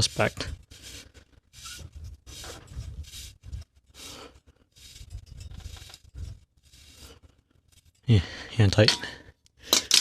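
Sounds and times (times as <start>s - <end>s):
metal on metal scraping rubs: 0.0s - 8.1s.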